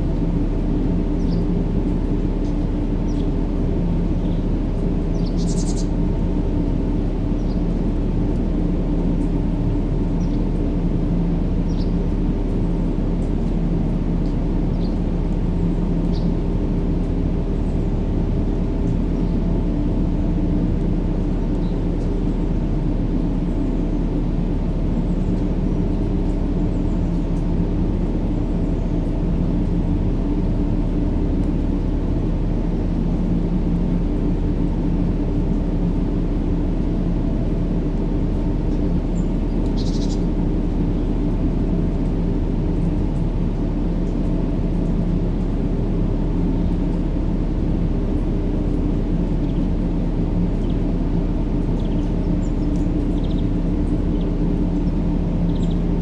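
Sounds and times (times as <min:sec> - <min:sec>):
constant hum: 0:00.0 - 0:56.0
low rumbling white noise: 0:00.0 - 0:56.0.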